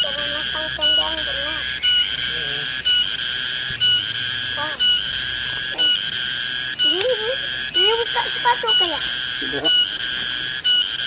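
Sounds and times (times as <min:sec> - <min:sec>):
brief gliding calls: 0:00.0 - 0:11.0
pulsing high-pitched whistle-like buzz: 0:00.0 - 0:11.0.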